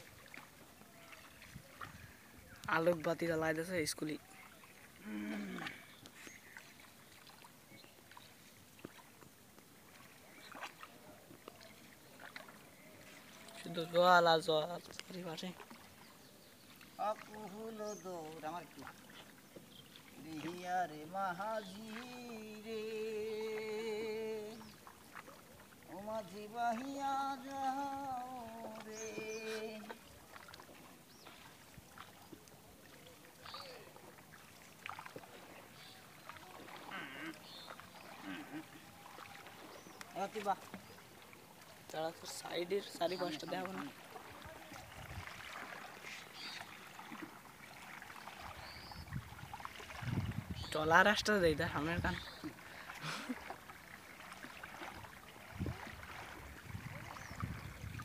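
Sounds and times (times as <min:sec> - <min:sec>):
water lapping around a boat: 0:00.0 - 0:58.0.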